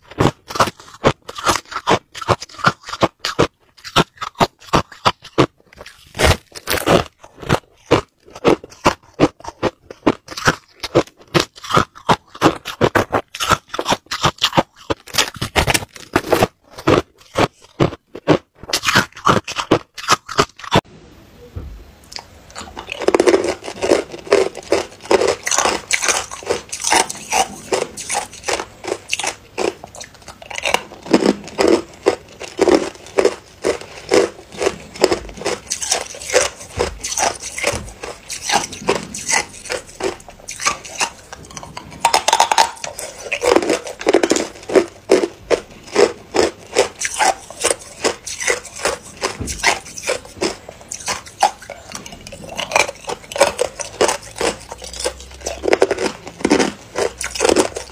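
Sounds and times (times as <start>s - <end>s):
ice cubes crunched between teeth: 0.0s - 20.8s, 22.5s - 57.9s.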